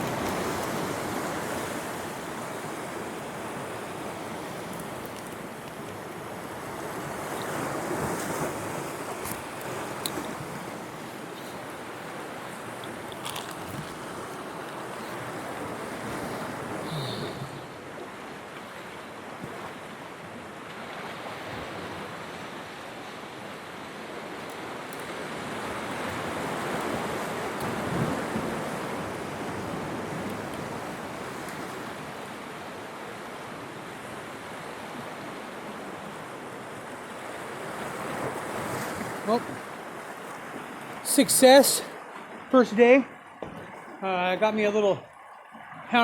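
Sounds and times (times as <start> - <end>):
surf washing against rocks: 0.0 - 46.0
wind: 0.0 - 46.0.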